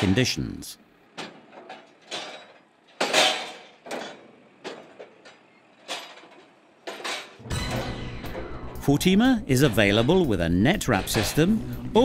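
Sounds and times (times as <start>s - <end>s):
round baler clanking and knocking: 1.1s - 12.0s.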